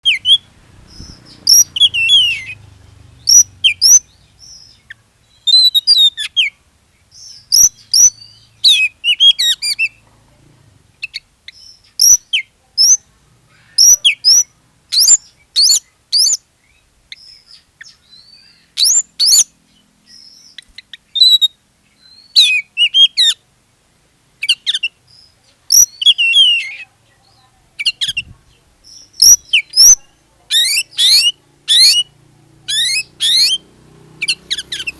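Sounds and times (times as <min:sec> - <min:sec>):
bird whistled song: 0:00.0 - 0:10.0, 0:11.0 - 0:13.0, 0:13.6 - 0:23.4, 0:24.4 - 0:26.9, 0:27.8 - 0:34.9.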